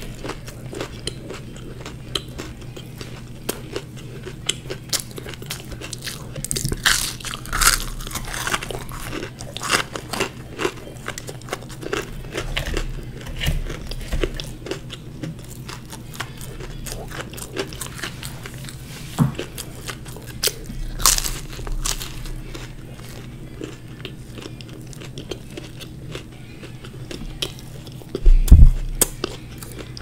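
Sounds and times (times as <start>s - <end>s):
crisp pastry crunching: 0.0s - 30.0s.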